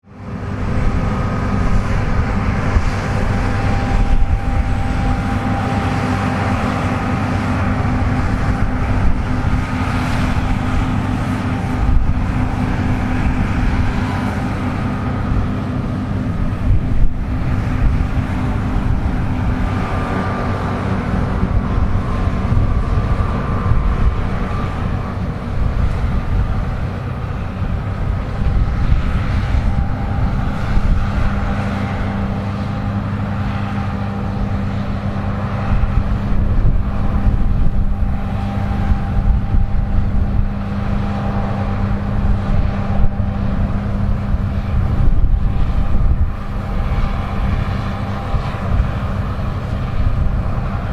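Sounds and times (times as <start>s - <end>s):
combine harvester rumbling: 0.0s - 50.9s
faint machine whine: 0.2s - 50.9s.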